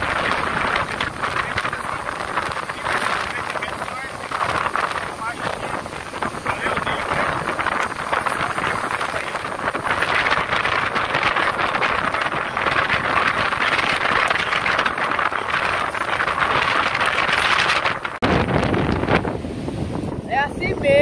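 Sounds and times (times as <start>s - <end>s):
breaking surf: 0.0s - 21.0s
wind on microphone: 0.0s - 21.0s.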